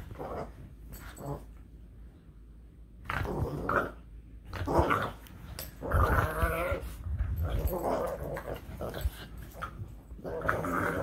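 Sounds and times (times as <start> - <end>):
dog growling playfully: 0.0 - 1.5, 3.0 - 11.0.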